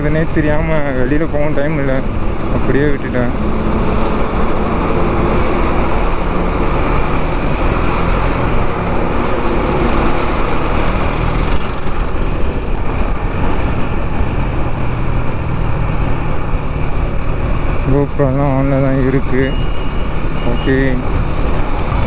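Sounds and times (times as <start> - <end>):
city traffic noise: 0.0 - 22.0
motorcycle engine running: 0.0 - 22.0.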